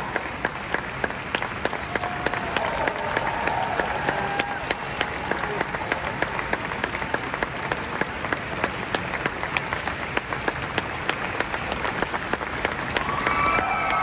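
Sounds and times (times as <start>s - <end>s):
large audience applauding: 0.0s - 14.0s.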